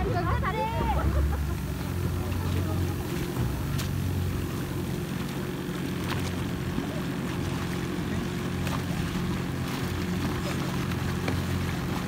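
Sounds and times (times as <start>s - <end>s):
speedboat engine running: 0.0s - 12.0s
water rushing along hull: 0.0s - 12.0s.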